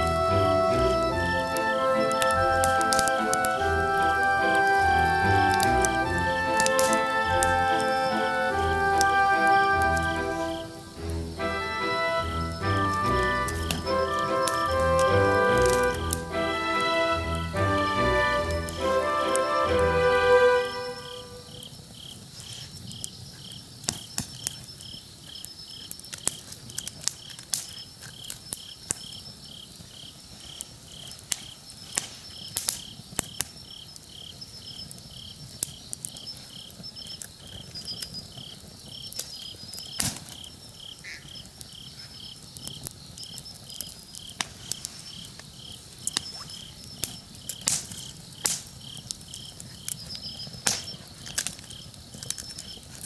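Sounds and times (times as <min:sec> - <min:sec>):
campfire crackling: 0:00.0 - 0:53.0
insects chirping: 0:00.0 - 0:53.0.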